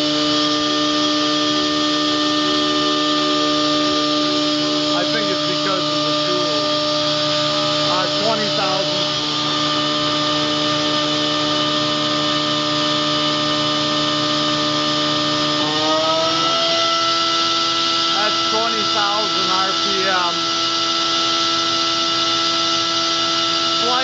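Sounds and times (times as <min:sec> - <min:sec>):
machine spindle whining: 0:00.0 - 0:24.0.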